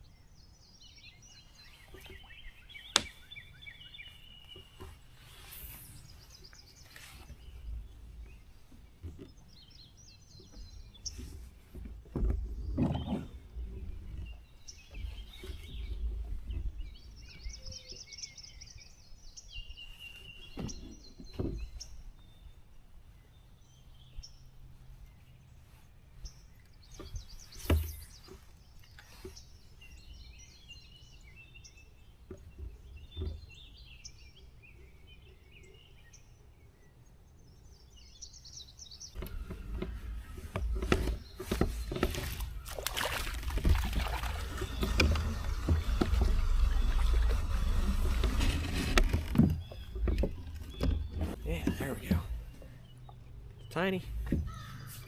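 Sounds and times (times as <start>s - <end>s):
kayak handling and water noise: 0.0s - 55.0s
songbirds singing: 0.0s - 55.0s.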